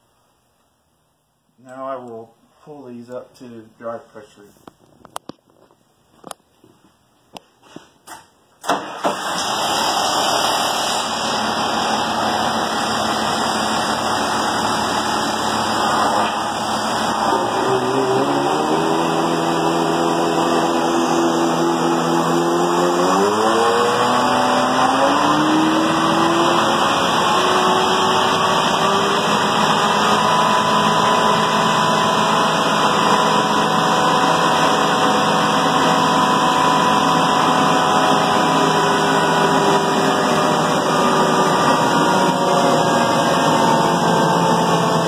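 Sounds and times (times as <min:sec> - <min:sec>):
hydraulic pump whine: 0:08.6 - 0:45.0.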